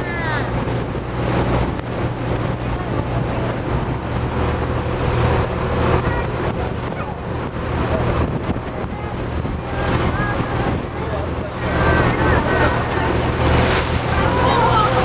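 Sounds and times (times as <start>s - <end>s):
boat engine droning: 0.0s - 15.0s
water rushing around hull: 0.0s - 15.0s
wind on microphone: 0.0s - 15.0s.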